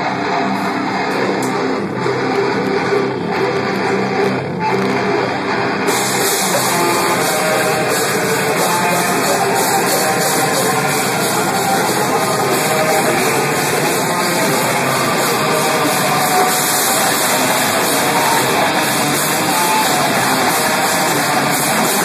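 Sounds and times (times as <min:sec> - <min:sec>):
drum kit: 0:00.0 - 0:22.0
electric guitars: 0:00.0 - 0:22.0.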